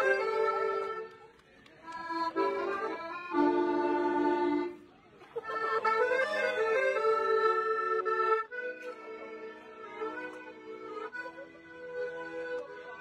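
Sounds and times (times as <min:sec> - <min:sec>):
piano accordion melody: 0:00.0 - 0:01.2, 0:01.9 - 0:04.8, 0:05.4 - 0:13.0.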